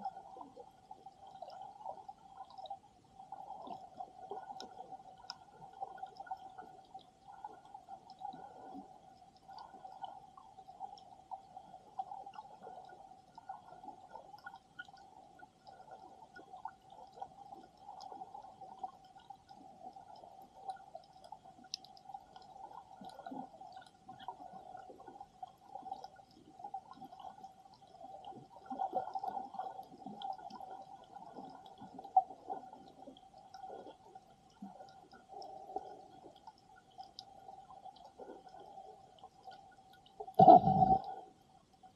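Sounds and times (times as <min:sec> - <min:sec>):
faint clicks and crackles: 0:00.0 - 0:41.9
muffled underwater water movement: 0:00.0 - 0:41.9.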